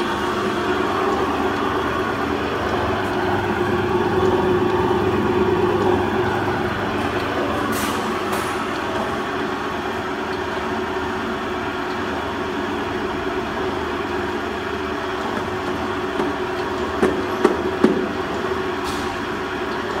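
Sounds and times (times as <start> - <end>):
granulator machine running: 0.0 - 20.0.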